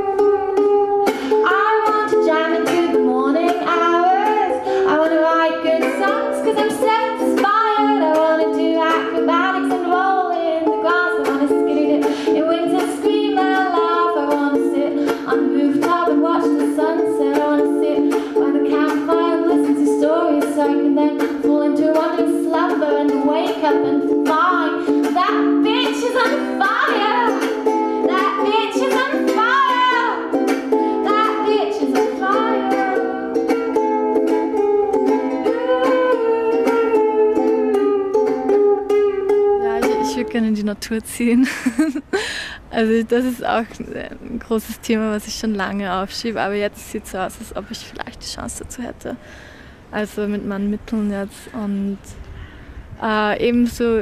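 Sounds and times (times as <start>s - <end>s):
woman singing: 0.0s - 33.6s, 34.3s - 49.2s, 50.0s - 52.2s, 53.0s - 54.0s
ukulele strumming: 0.0s - 49.4s.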